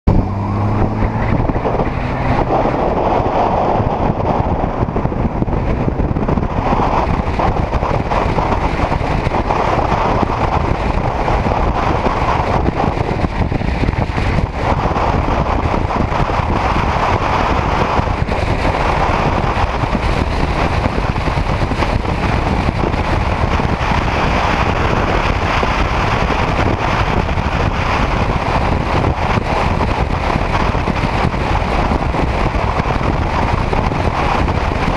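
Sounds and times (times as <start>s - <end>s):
motorcycle engine and road noise: 0.0s - 34.9s
wind on microphone: 0.1s - 34.9s.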